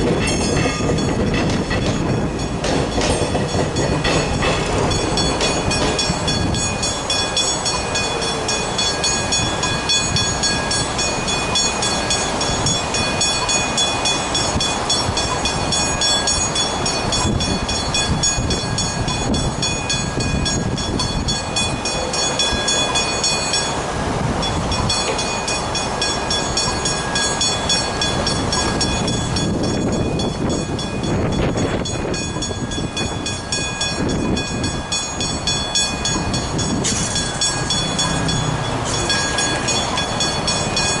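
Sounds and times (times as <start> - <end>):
crossing warning bells ringing: 0.0 - 41.0
train rumbling: 0.0 - 41.0.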